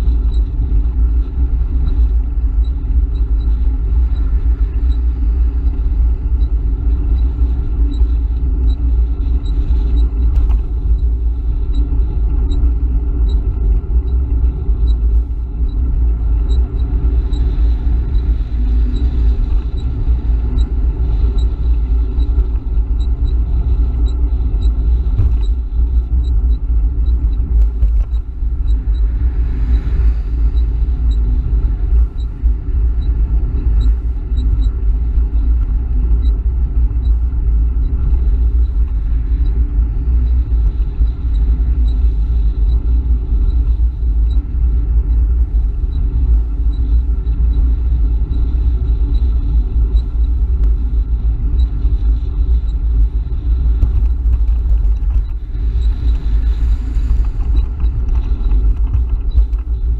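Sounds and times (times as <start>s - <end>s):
faint regular ticking: 0.0s - 59.9s
wind and road rumble: 0.0s - 59.9s.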